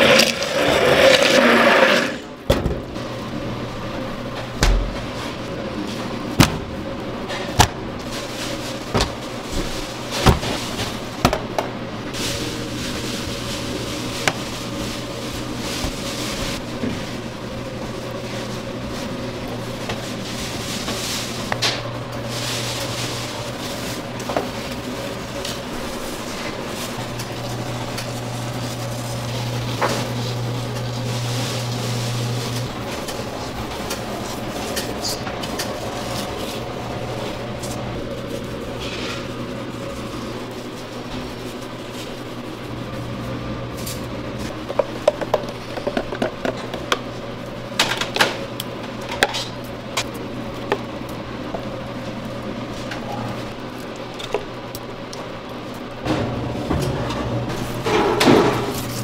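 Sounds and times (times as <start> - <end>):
kitchen ventilation humming: 0.0 - 59.0.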